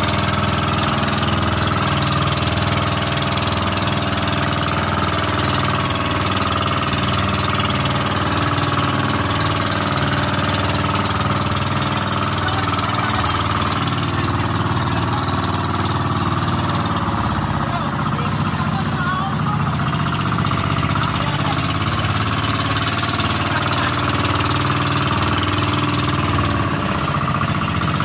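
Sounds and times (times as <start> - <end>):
boat engine running: 0.0 - 28.0
water rushing along hull: 0.0 - 28.0.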